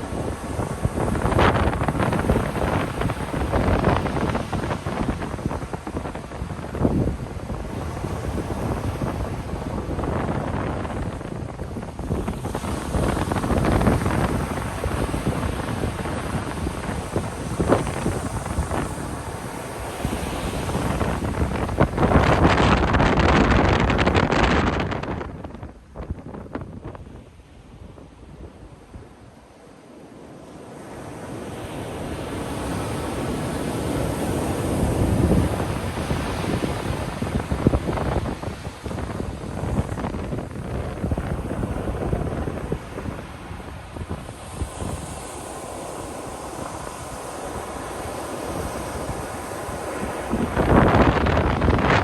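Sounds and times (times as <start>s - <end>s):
wind buffeting microphone: 0.0s - 29.4s, 30.8s - 52.0s
ocean waves washing on beach: 0.0s - 52.0s.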